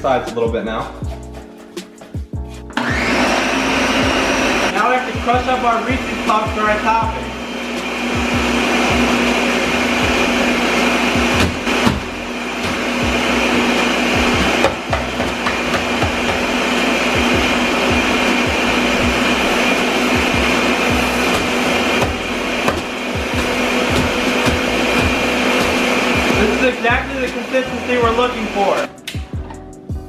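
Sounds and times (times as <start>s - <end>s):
blender running at high speed: 2.8s - 28.9s.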